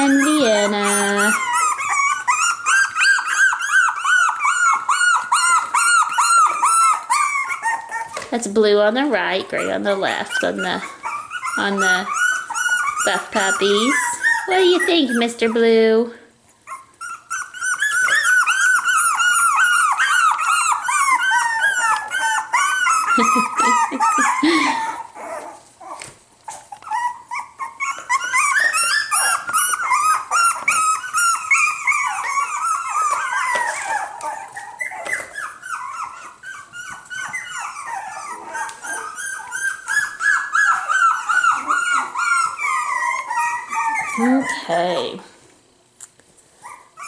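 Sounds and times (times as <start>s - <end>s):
puppies whining and yipping: 0.0s - 47.0s.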